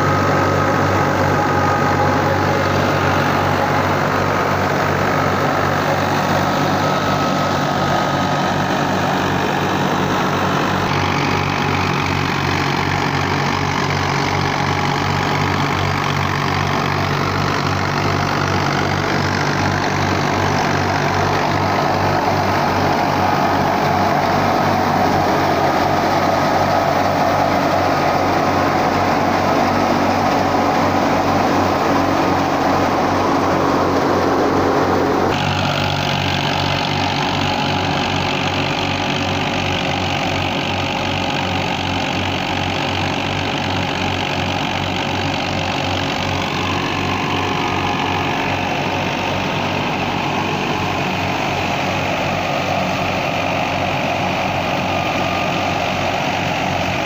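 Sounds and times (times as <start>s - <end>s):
thresher rushing noise: 0.0s - 40.0s, 43.7s - 57.0s
tractor diesel engine running: 0.0s - 57.0s.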